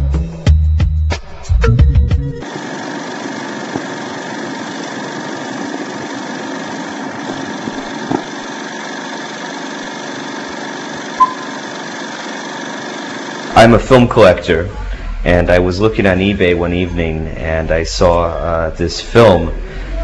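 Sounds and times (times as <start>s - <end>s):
machine whirring: 2.4s - 20.0s.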